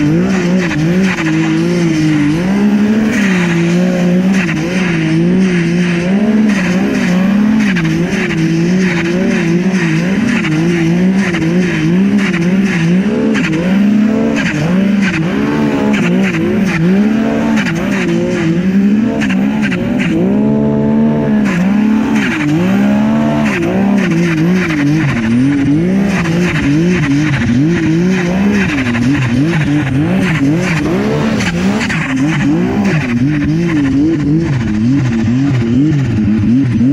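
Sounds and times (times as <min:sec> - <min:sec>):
snowmobile engine revving: 0:00.0 - 0:36.9.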